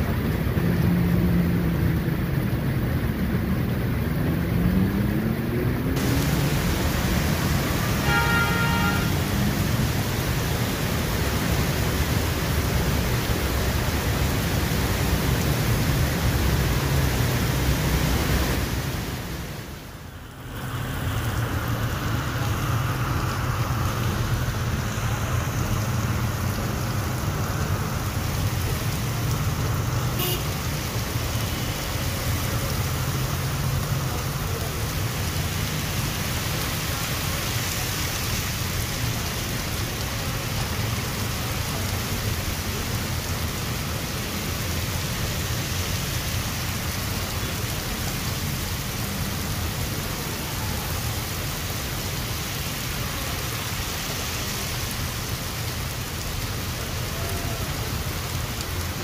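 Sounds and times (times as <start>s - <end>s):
heavy rain pouring: 0.0s - 59.0s
vehicle engines running: 0.0s - 59.0s.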